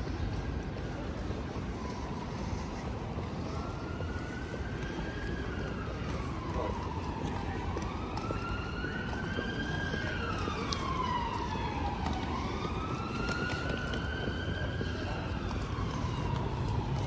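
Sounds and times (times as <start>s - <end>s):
emergency siren wailing: 0.0s - 17.0s.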